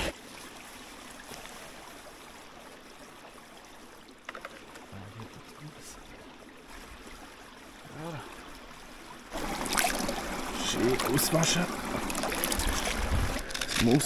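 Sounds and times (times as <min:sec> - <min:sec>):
creek running: 0:00.0 - 0:14.0.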